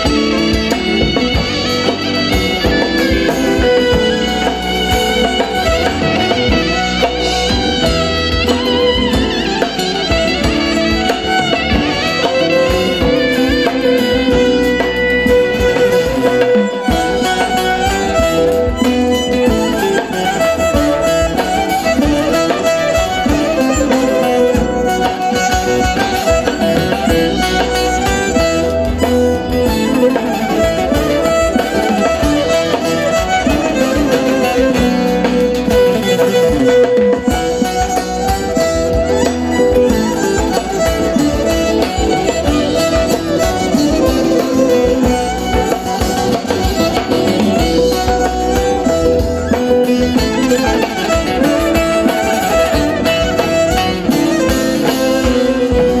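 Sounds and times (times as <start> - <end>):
bowed fiddle: 0.0 - 56.0
drums: 0.0 - 56.0
long-necked lute melody: 0.0 - 56.0.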